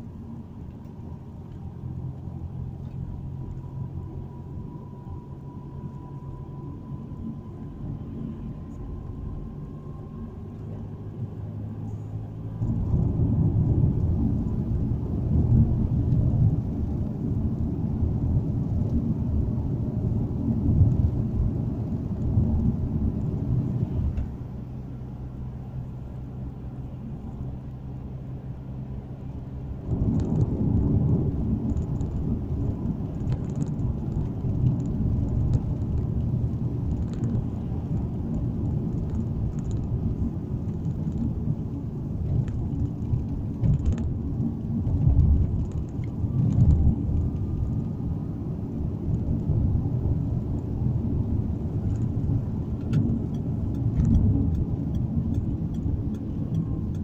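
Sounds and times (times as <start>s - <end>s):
car tyre noise inside cabin: 0.0s - 57.0s
faint engine hum: 0.0s - 57.0s.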